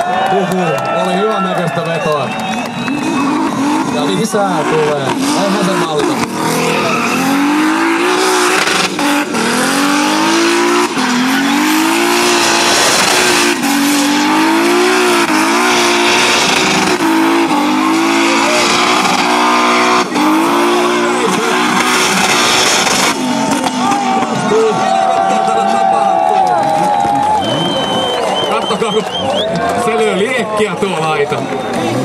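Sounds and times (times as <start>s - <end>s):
spinning tyres squealing: 1.3s - 32.0s
car engine at high revs: 1.6s - 32.0s.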